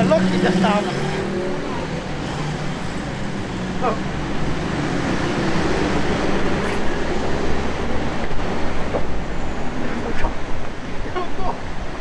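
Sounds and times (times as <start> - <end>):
road traffic rumbling: 0.0 - 12.0.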